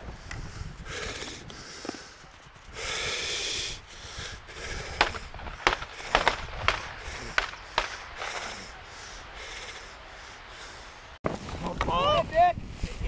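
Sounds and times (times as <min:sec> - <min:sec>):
light outdoor background: 0:00.0 - 0:13.0.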